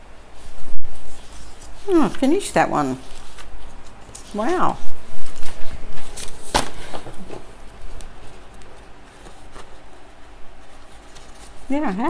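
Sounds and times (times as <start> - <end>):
faint rustling: 0.3 - 12.0.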